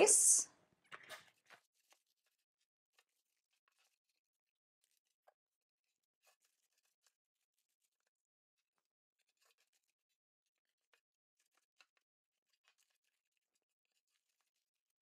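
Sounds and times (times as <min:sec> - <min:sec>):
faint paper rustles and clicks: 0:00.8 - 0:15.0.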